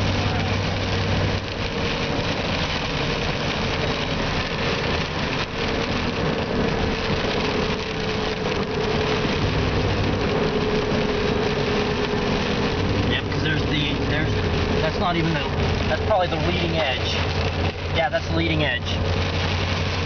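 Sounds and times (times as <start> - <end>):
car engine drone: 0.0 - 20.0
tyres hissing on wet road: 0.0 - 20.0.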